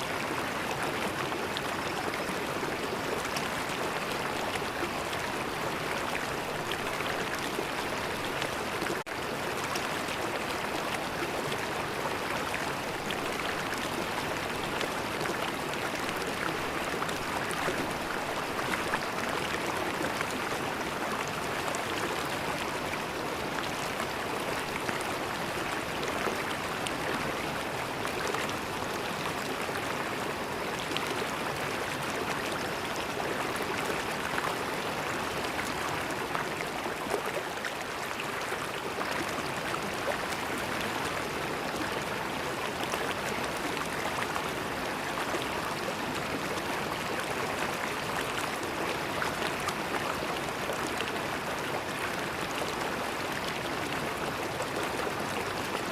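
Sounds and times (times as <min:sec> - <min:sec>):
river water flowing over rocks: 0:00.0 - 0:55.9.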